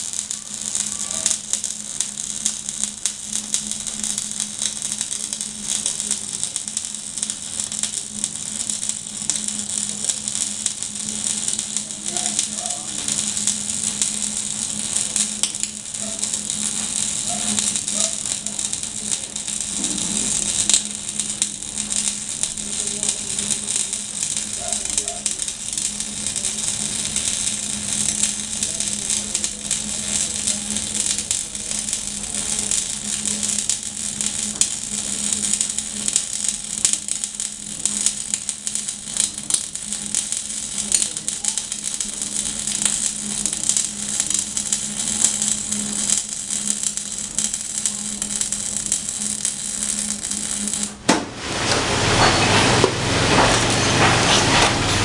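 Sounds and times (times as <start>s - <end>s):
electric arc welding sizzle: 0.0s - 55.0s.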